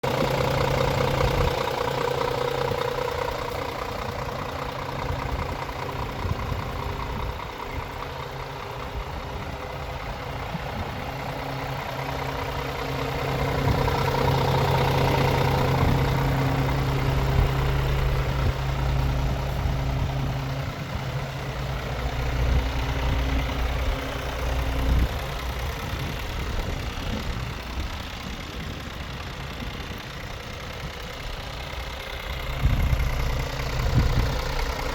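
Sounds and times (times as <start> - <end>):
strong low drone: 0.0 - 34.9
truck diesel engine idling: 0.0 - 34.9.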